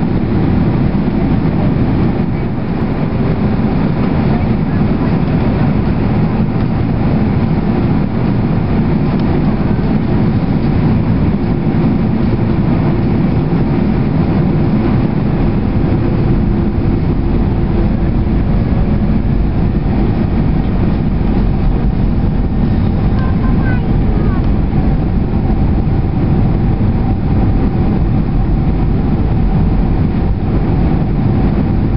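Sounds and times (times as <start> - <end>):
airliner cabin engine roar: 0.0 - 31.9.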